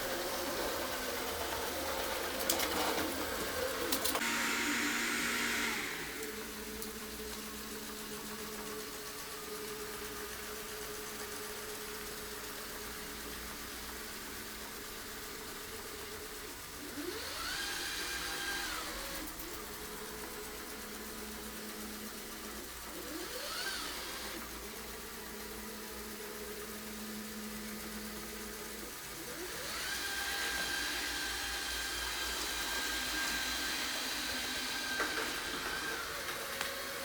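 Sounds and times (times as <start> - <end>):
robot vacuum motor hum: 0.0 - 37.0.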